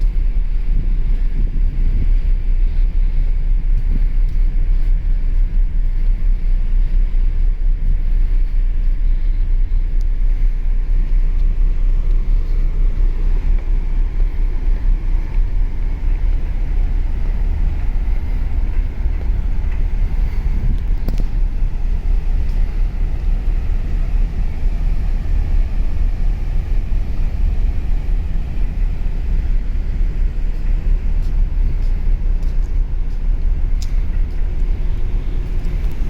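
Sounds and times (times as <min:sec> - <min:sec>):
low rumble aboard ferry: 0:00.0 - 0:36.0.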